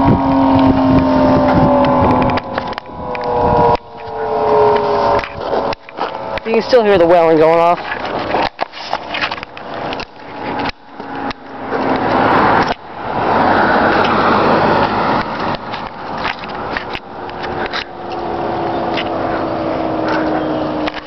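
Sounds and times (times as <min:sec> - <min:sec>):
warning siren wailing faintly: 0:00.0 - 0:08.2, 0:09.8 - 0:21.0
wind buffeting microphone: 0:00.0 - 0:21.0.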